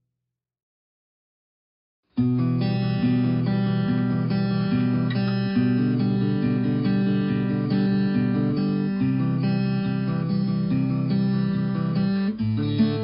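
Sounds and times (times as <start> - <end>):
strummed acoustic guitar music: 2.2 - 13.0.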